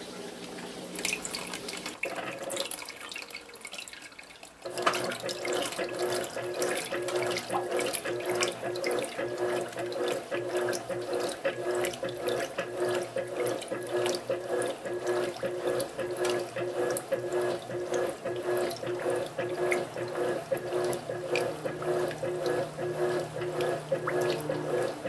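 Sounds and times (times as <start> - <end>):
washing machine pulsing hum: 0.0 - 25.0
water sloshing in washing machine: 0.0 - 25.0.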